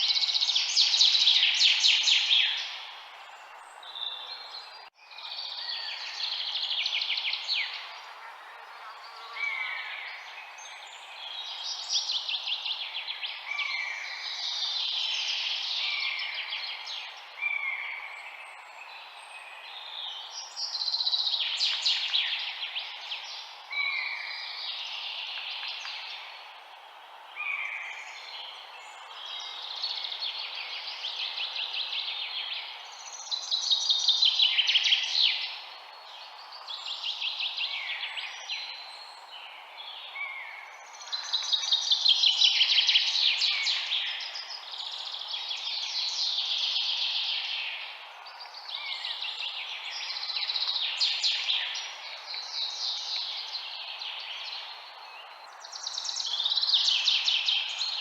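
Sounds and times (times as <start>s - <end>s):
faint steady hiss: 0.0s - 58.0s
songbirds singing: 0.0s - 58.0s.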